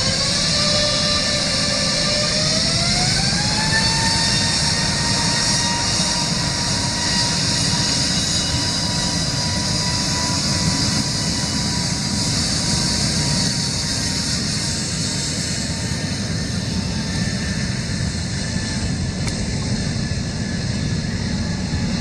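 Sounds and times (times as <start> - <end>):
jet engines spooling up: 0.0 - 22.0.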